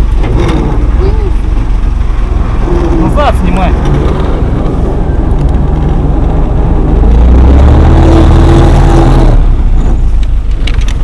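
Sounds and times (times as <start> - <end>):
jeep engine running: 0.0 - 11.0.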